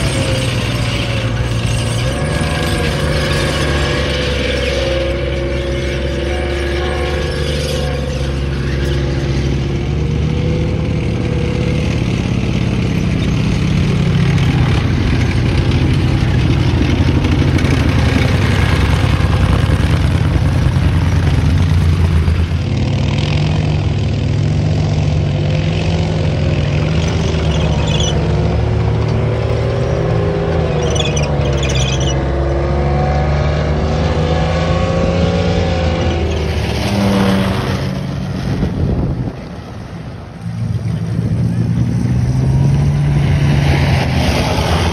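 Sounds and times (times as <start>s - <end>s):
tank engine rising and falling: 0.0s - 44.9s
tracked vehicle engines running: 0.0s - 44.9s.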